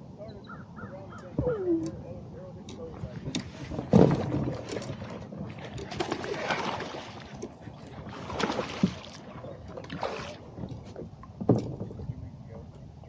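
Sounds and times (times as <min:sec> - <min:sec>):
water against hull: 0:00.5 - 0:13.0.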